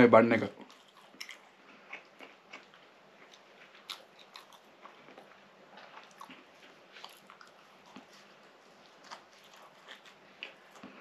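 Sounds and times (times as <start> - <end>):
chewing bread: 0.6 - 11.0.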